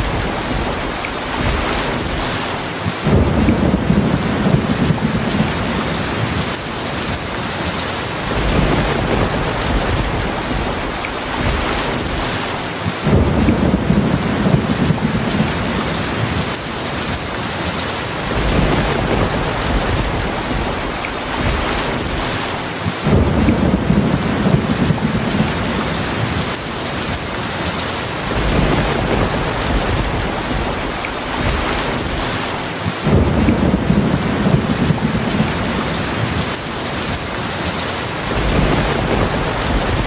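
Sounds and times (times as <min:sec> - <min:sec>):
thunder rolling: 0:00.0 - 0:07.1, 0:08.2 - 0:17.1, 0:18.2 - 0:27.1, 0:28.2 - 0:37.1, 0:38.2 - 0:40.0
heavy rain falling: 0:00.0 - 0:40.0.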